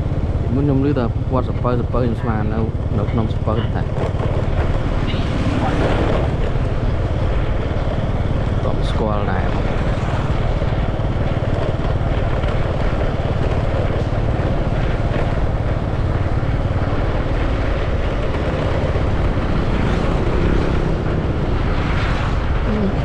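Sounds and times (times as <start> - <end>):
moving vehicle rumble: 0.0 - 23.0
wind on microphone: 0.0 - 23.0.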